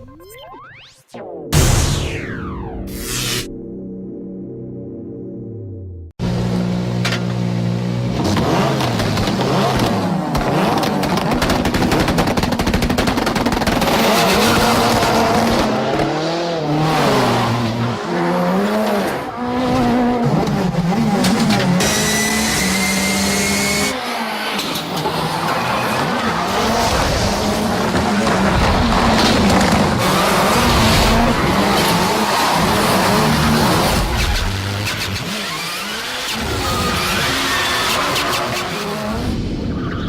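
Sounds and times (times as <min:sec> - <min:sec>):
rally car engine revving: 0:06.2 - 0:39.4.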